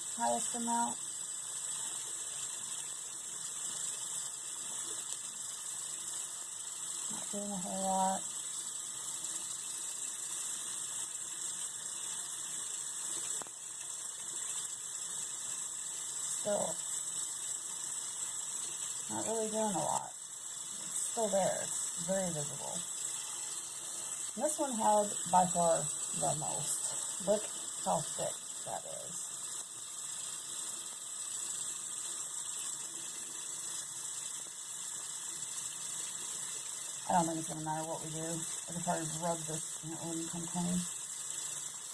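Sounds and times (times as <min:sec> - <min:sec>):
tap water running: 0:00.0 - 0:41.9.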